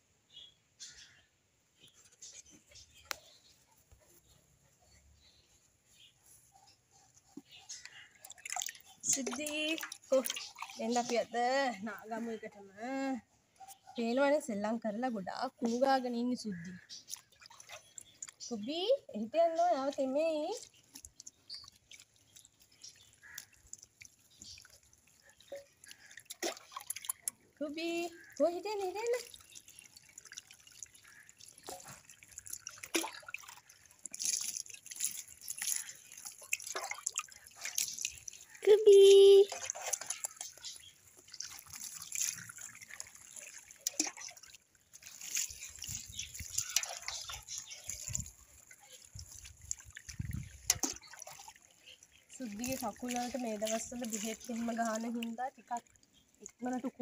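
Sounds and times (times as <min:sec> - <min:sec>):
water dripping and splashing: 0:07.2 - 0:57.0.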